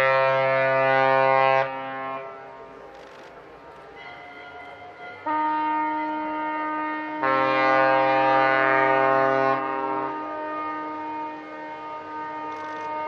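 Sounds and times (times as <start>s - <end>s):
ship horn blowing: 0.0s - 2.7s, 4.0s - 13.0s
deep loud ship horn: 0.0s - 2.8s, 4.0s - 13.0s.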